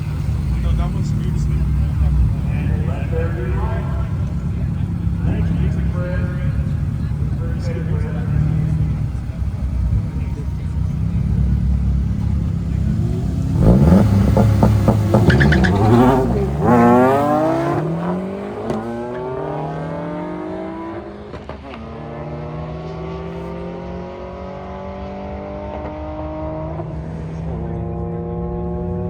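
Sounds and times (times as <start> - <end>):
drag racing car engines revving: 0.0 - 29.0.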